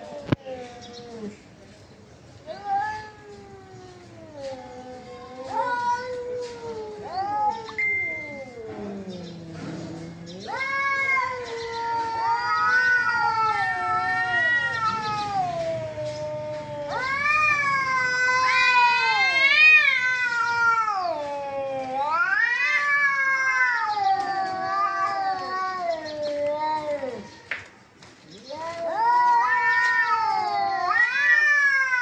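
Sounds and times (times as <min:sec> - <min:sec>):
cats yowling: 0:02.4 - 0:27.5, 0:28.3 - 0:32.0.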